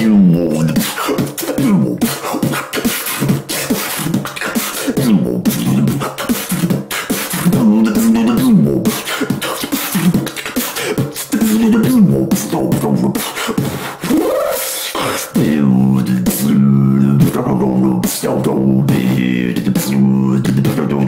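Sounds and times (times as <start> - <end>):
beatboxing wobble bass: 0.0 - 21.0
beatboxed snare and hi-hat hits: 0.3 - 21.0.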